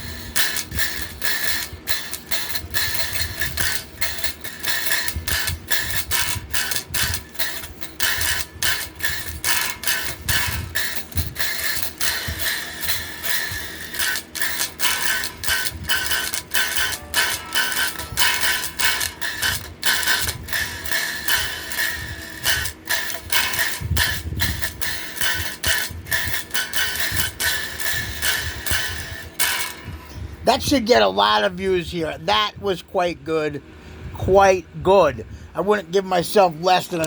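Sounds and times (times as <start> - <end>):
fast hard guitar strumming: 0.0 - 33.1.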